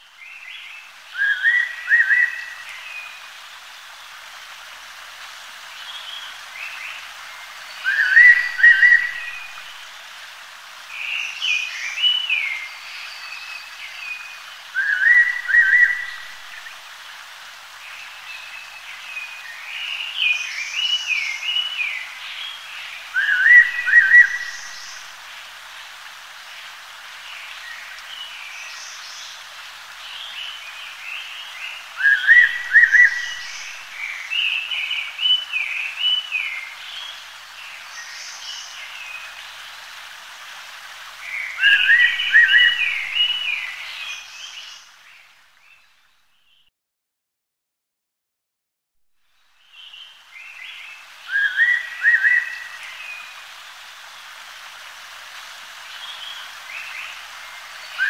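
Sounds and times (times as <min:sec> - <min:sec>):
ambient hiss: 0:00.0 - 0:46.2, 0:49.4 - 0:58.0.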